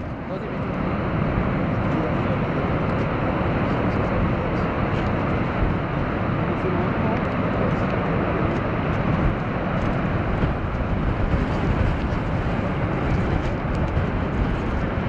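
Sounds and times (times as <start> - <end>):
waterfall roaring: 0.3 - 15.0.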